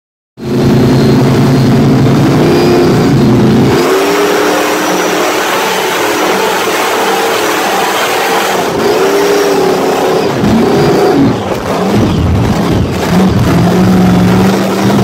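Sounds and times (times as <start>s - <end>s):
boat engine running loud: 0.4s - 15.0s.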